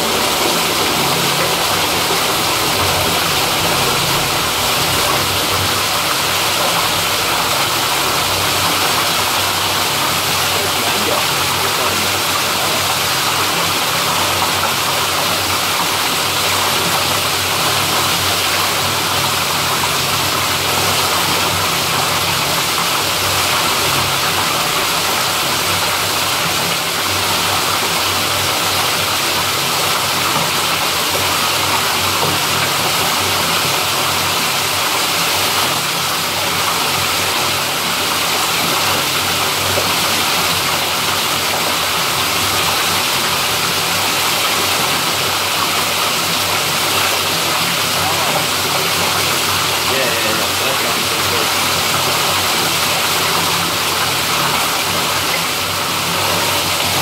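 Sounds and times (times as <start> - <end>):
water gushing from a pipe: 0.0 - 57.0.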